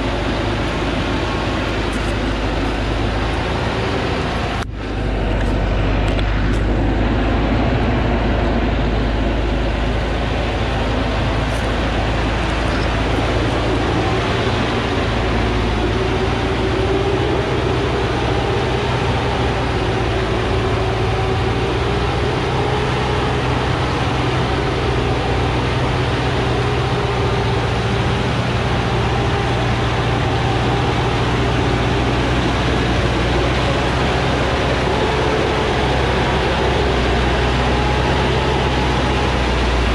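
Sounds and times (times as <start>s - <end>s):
truck diesel engine under load: 0.0s - 39.9s.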